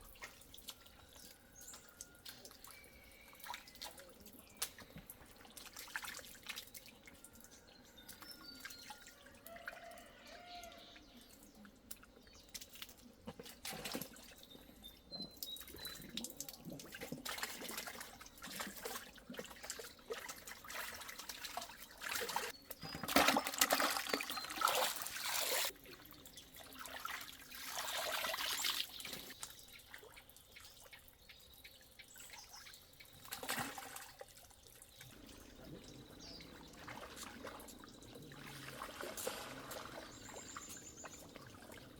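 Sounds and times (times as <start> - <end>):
water trickling and splashing: 0.0 - 41.9.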